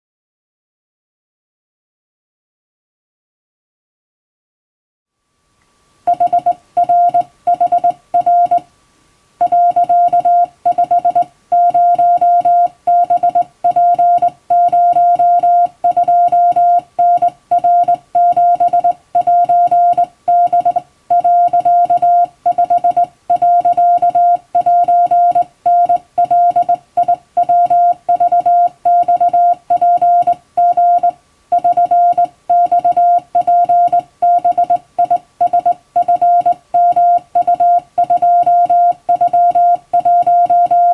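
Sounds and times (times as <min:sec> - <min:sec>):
morse code beeps: 0:06.1 - 0:08.6, 0:09.4 - 0:40.9.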